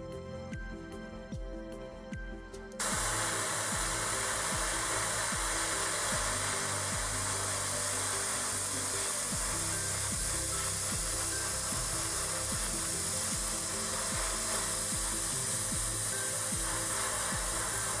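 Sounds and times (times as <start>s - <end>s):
background music: 0.0s - 18.0s
hiss of rushing air: 2.8s - 18.0s.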